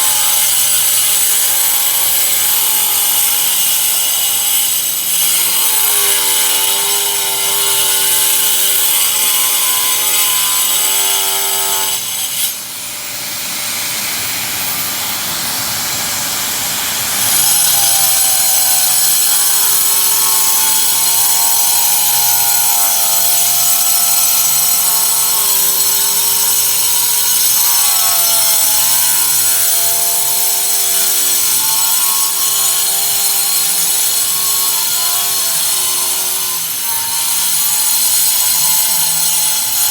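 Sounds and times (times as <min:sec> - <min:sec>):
power tool motor cutting: 0:00.0 - 0:39.9.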